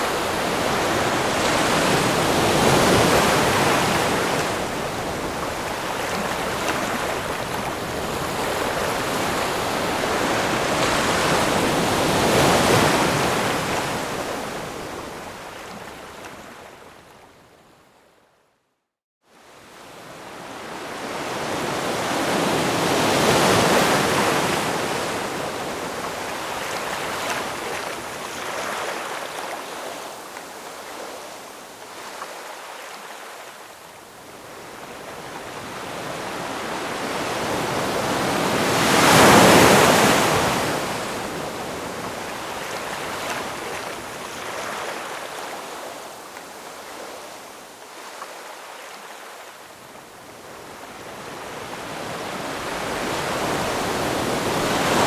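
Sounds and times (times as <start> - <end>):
ocean waves crashing: 0.0 - 16.4, 20.3 - 31.5, 34.5 - 49.3, 50.7 - 55.0.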